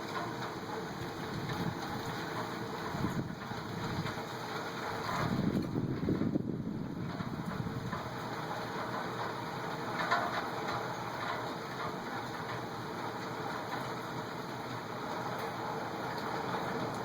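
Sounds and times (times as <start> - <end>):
wind and rain roaring: 0.0 - 17.0.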